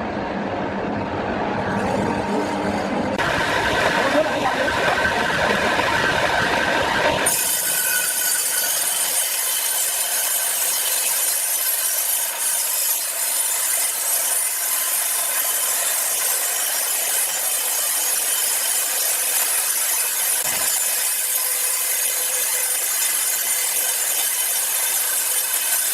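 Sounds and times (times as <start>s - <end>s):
saw cutting through timber: 1.8s - 25.9s.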